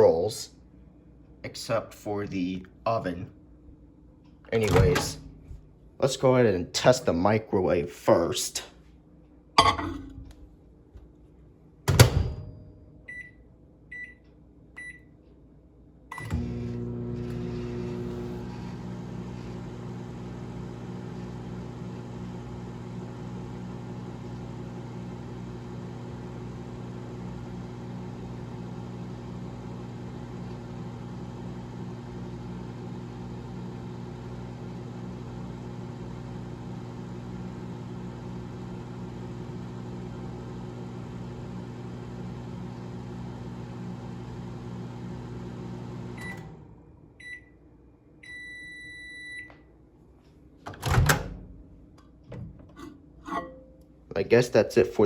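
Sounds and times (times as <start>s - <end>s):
microwave humming: 1.3s - 6.0s, 9.2s - 15.2s, 16.0s - 54.1s.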